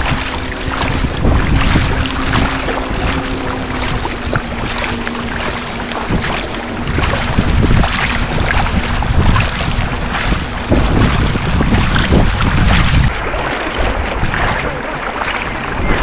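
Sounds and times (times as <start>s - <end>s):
swimmers' arm stroke splashes: 0.0s - 15.6s
seawater sloshing and splashing: 0.0s - 16.0s
wind on microphone: 0.0s - 16.0s.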